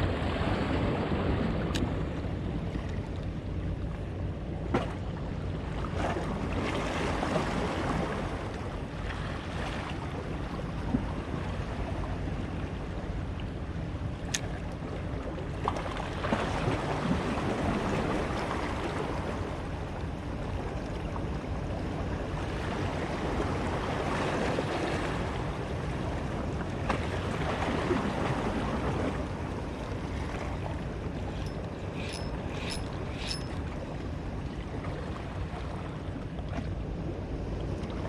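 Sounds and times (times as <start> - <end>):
sea water lapping: 0.0 - 38.0
wind: 0.0 - 38.0.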